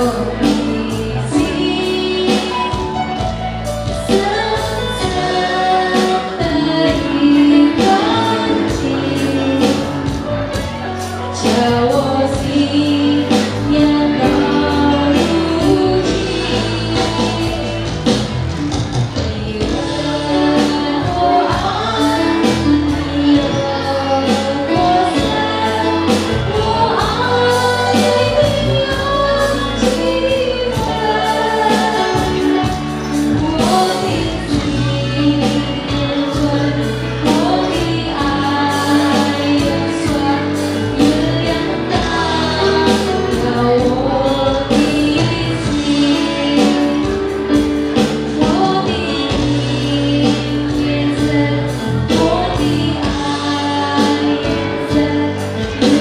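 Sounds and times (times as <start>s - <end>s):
man and woman singing a duet: 0.0s - 18.4s, 19.0s - 56.0s
bass guitar: 0.0s - 56.0s
drums: 0.0s - 56.0s.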